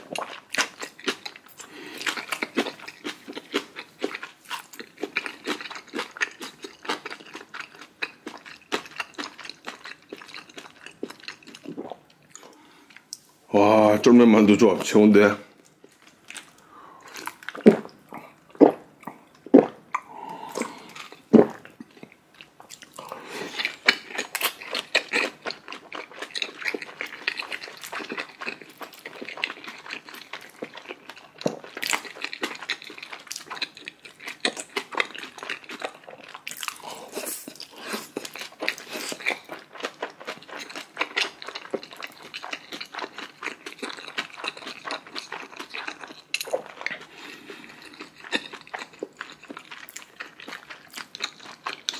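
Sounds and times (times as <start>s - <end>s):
chewing with wet smacking: 0.0s - 13.3s, 15.8s - 51.9s.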